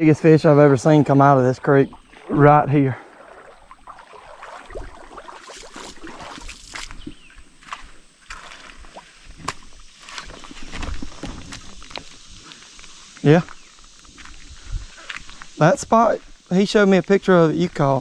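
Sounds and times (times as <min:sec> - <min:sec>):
water sloshing in creek: 0:00.7 - 0:15.4.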